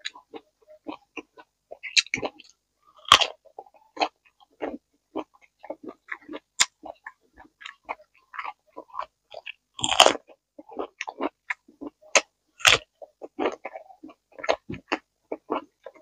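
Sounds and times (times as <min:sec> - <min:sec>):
chewing and crunching vegetables: 0:00.0 - 0:16.0.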